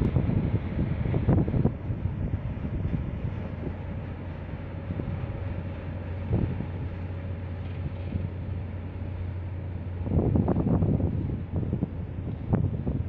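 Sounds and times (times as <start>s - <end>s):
ship engine drone: 0.0s - 13.0s
wind buffeting microphone: 0.0s - 13.0s.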